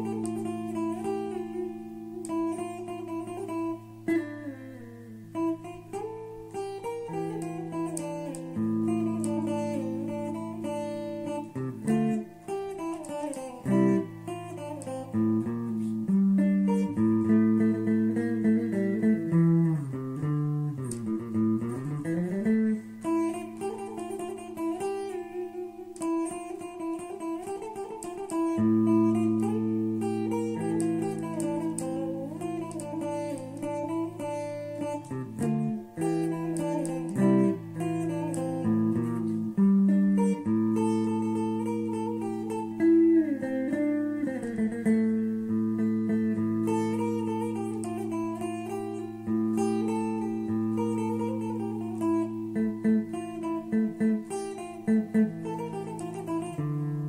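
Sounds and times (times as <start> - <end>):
plucked string instrument melody: 0.0 - 57.0.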